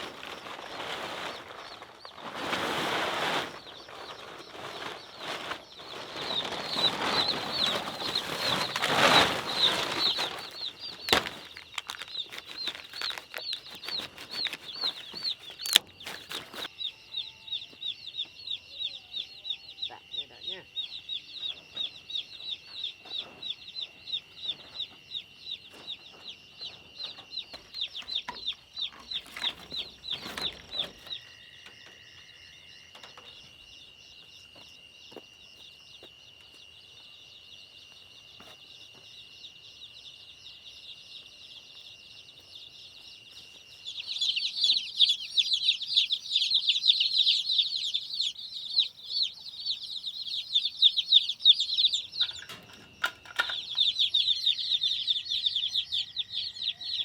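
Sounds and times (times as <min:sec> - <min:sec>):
chicks peeping: 0:00.0 - 0:31.3, 0:38.4 - 0:57.0.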